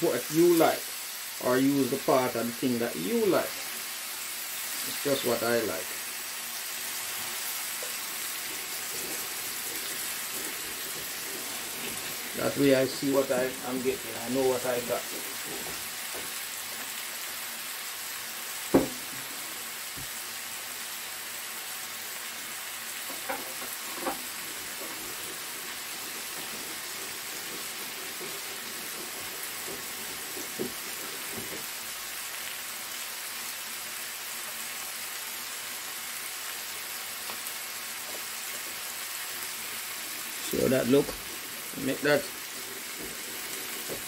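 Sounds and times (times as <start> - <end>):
chicken sizzling in oil: 0.0 - 44.0.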